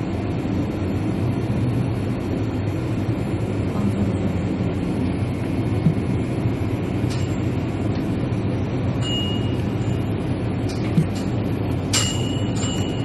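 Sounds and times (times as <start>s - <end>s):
low rumble and hiss of room noise: 0.0s - 13.0s.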